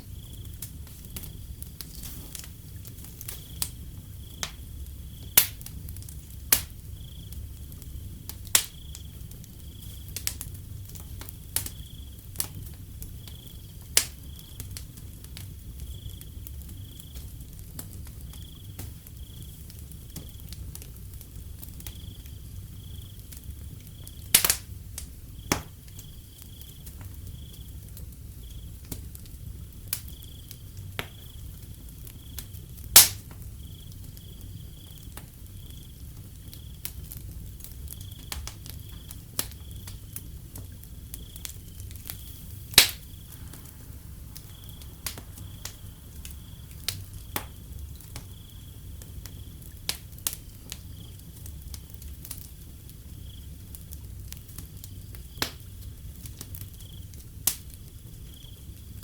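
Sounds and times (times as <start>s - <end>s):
crickets chirping: 0.0s - 59.0s
wood fire crackling and popping: 0.0s - 59.0s.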